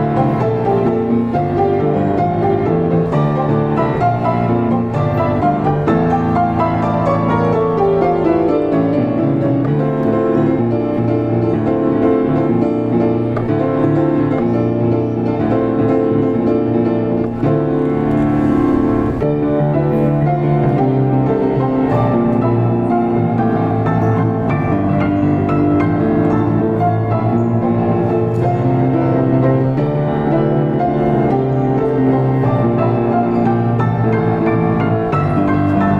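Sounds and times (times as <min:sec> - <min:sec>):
solo grand piano: 0:00.0 - 0:35.9.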